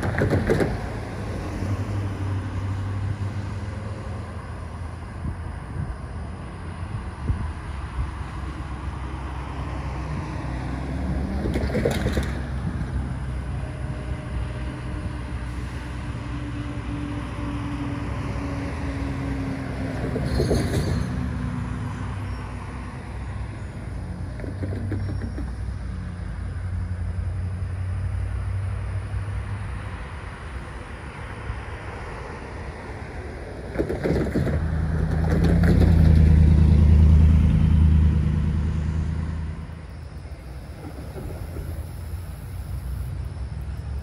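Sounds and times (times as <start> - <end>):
vehicles passing on street: 0.0 - 44.0.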